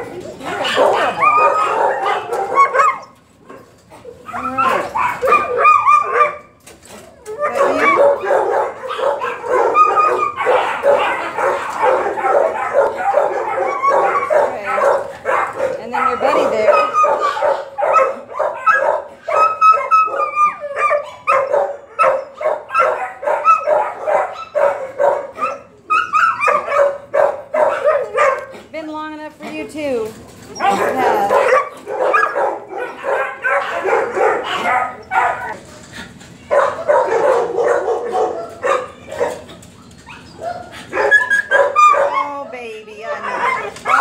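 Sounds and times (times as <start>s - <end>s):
dog howling: 0.0s - 3.2s, 4.0s - 28.5s, 30.6s - 35.7s, 36.5s - 44.0s
dogs barking: 0.0s - 28.8s, 30.5s - 44.0s.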